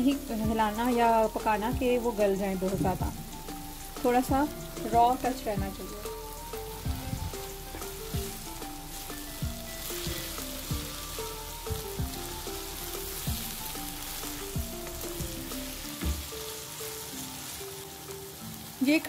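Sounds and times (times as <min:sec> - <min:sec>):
background music with beat: 0:00.0 - 0:18.8
meat sizzling in a wok: 0:00.0 - 0:19.0
spatula stirring in a wok: 0:02.7 - 0:19.0.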